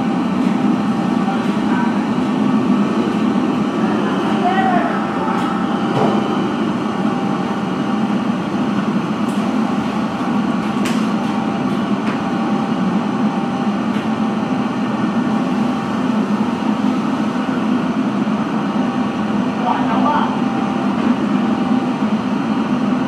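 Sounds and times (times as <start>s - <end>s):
machine hum with rushing noise: 0.0s - 23.0s.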